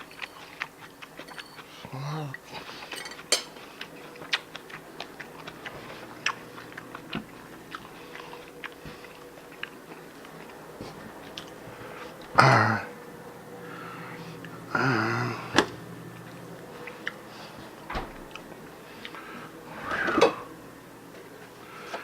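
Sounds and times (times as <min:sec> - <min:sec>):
chewing and crunching food: 0:00.0 - 0:19.8.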